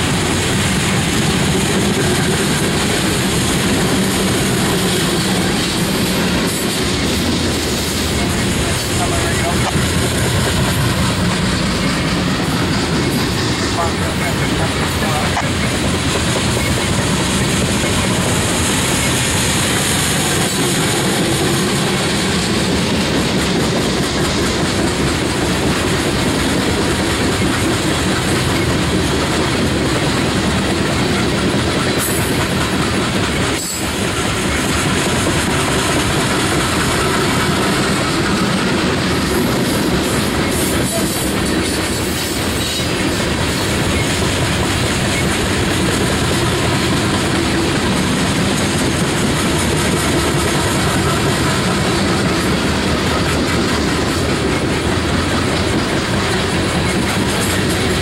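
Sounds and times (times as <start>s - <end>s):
steel wheels clattering on rails: 0.0s - 58.0s.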